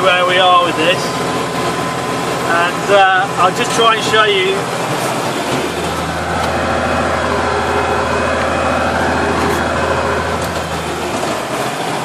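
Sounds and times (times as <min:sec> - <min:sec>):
cab fans blowing: 0:00.0 - 0:12.0
tractor engine drone: 0:00.0 - 0:12.0.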